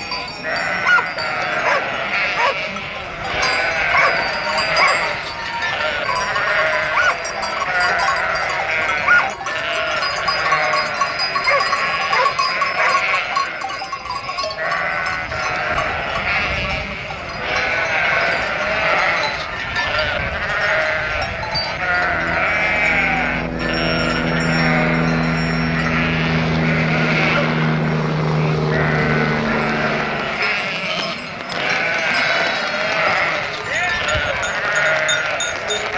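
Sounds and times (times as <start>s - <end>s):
sheep bleating: 0.4s - 35.9s.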